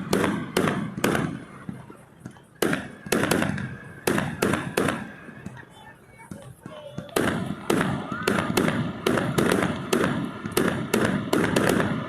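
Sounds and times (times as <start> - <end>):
fireworks bangs echoing: 0.0 - 12.0.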